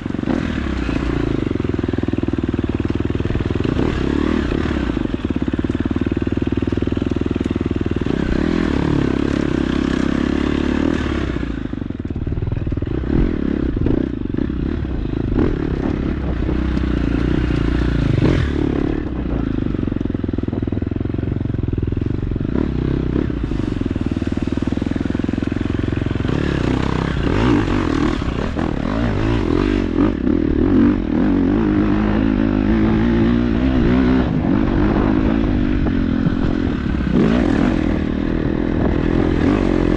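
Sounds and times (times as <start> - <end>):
clatter of bike riding: 0.0 - 39.9
dirt bike engine running: 0.0 - 39.9.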